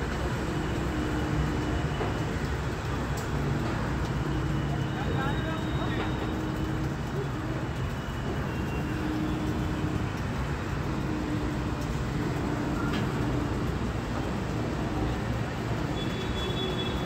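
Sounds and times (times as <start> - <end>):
crane diesel engine rumbling: 0.0 - 17.0.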